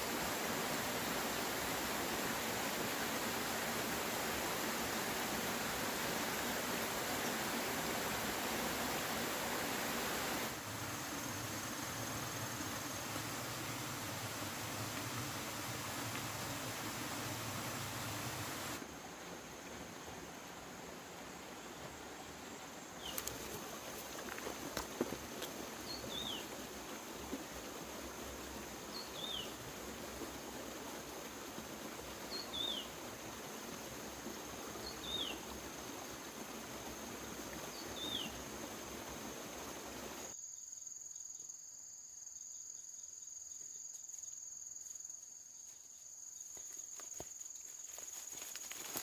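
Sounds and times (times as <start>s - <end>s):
background hiss: 0.0s - 49.0s
insects trilling: 0.0s - 49.0s.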